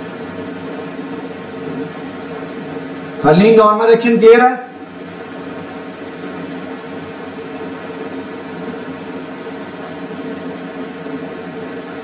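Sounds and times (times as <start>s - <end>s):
steady background hum and hiss: 0.0s - 12.0s.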